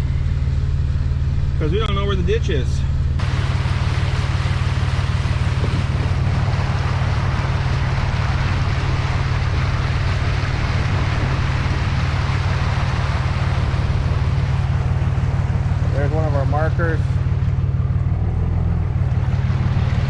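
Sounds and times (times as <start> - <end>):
diesel engine running: 0.0 - 20.0
water rushing and sloshing: 3.0 - 20.0.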